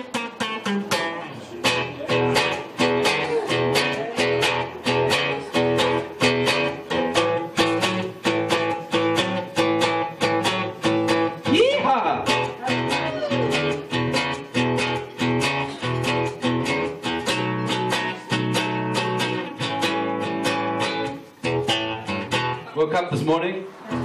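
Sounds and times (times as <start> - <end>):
acoustic guitar strumming chords: 0.0 - 22.9.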